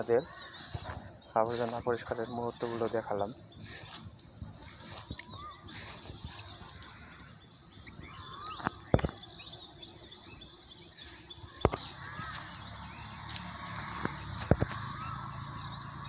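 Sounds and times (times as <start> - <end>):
outdoor background noise: 0.0 - 16.0
small birds chirping: 0.0 - 16.0.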